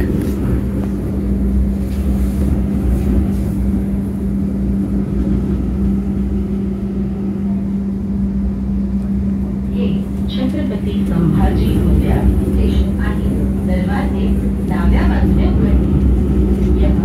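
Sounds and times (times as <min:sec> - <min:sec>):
train car running rumble: 0:00.0 - 0:17.0.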